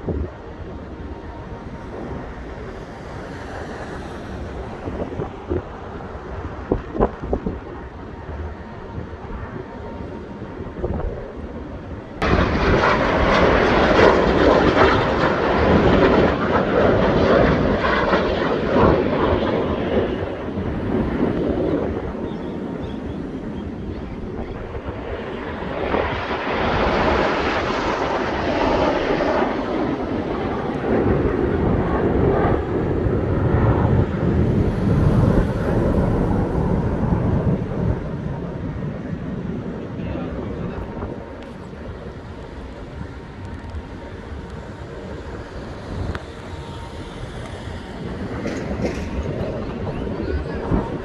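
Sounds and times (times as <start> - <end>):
jets flying past: 0.0 - 8.3, 12.2 - 51.0.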